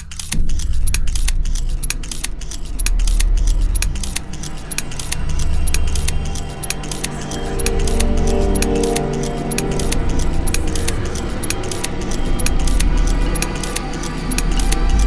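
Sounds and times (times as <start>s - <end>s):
steady low drone: 0.0s - 15.0s.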